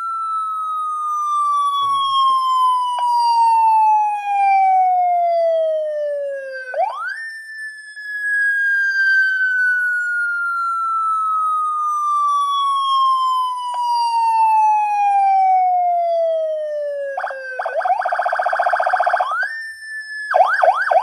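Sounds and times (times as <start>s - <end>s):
electronic siren wailing: 0.0s - 21.0s.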